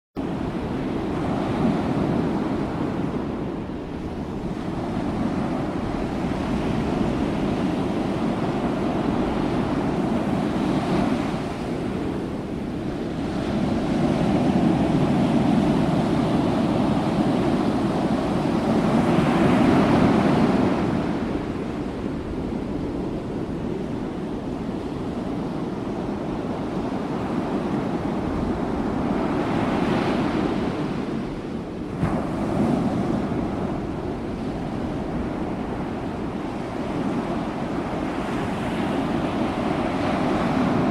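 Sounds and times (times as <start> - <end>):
ocean surf: 0.2 - 40.9
wind on microphone: 0.2 - 40.9.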